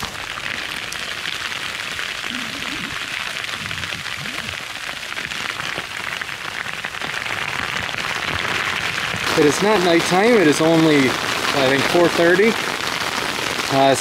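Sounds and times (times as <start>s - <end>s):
hail rattling on a tent: 0.0s - 14.0s.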